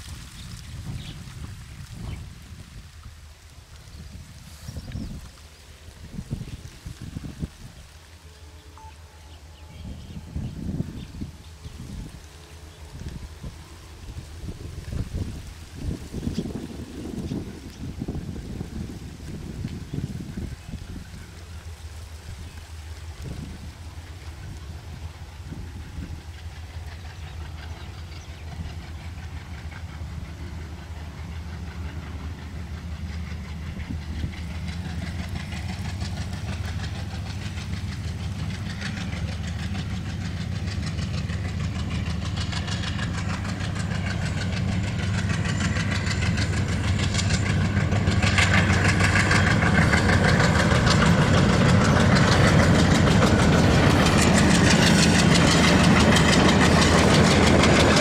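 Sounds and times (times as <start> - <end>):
diesel locomotive engine: 0.0 - 58.0
wheels rattling on rails: 0.0 - 58.0.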